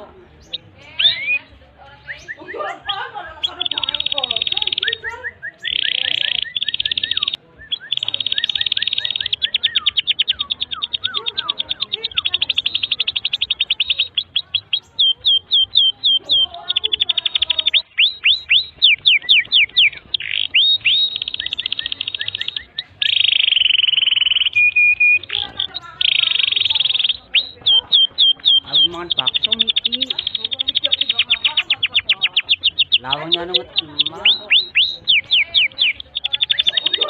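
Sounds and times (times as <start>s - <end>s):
canary singing trills: 0.0s - 37.0s.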